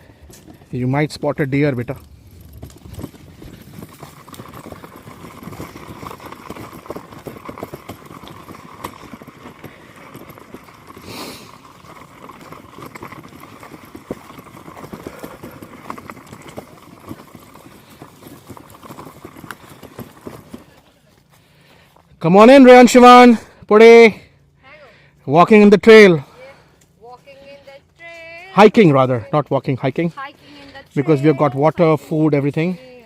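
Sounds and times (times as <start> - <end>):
footsteps on woodland trail: 0.0 - 23.6, 26.2 - 33.0.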